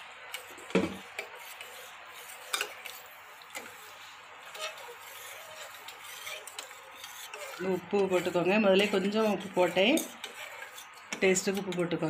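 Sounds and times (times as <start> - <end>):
spoon stirring wet food: 0.1 - 12.0.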